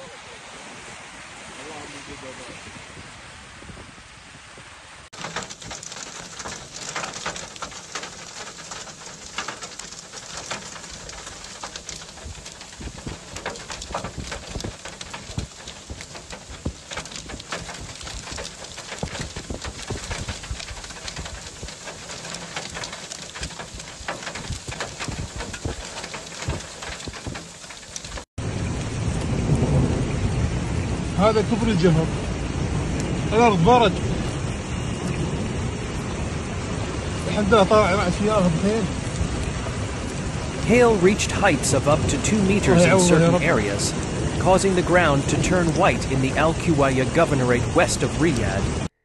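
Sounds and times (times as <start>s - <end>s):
hail and rain pelting ground: 5.0s - 48.9s.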